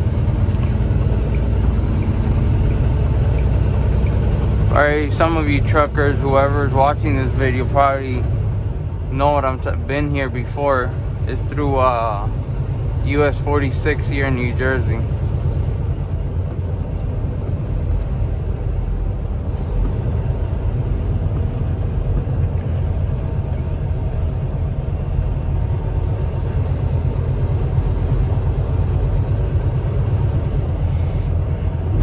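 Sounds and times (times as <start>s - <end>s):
truck engine and tyres rumbling: 0.0s - 32.0s.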